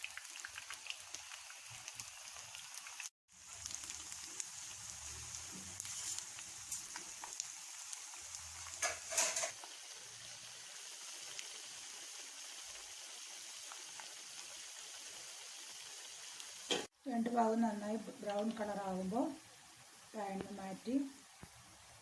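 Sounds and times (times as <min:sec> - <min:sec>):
patties sizzling in oil: 0:00.0 - 0:22.0.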